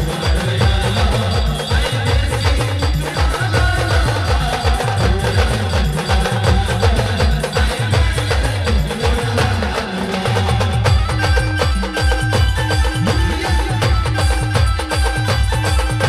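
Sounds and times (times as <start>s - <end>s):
fast percussion with woodblock clicks: 0.0s - 16.0s.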